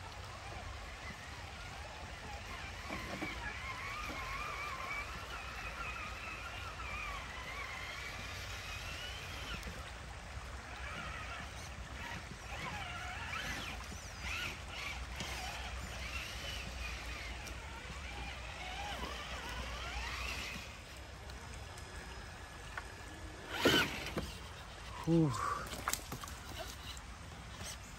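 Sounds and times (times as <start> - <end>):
running water: 0.0 - 27.9
toy car electric motor whining: 0.4 - 22.6, 23.2 - 27.0.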